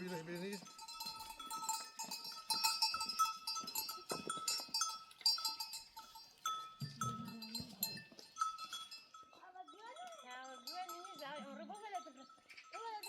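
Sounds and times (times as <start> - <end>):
livestock bells clanking: 0.0 - 13.0.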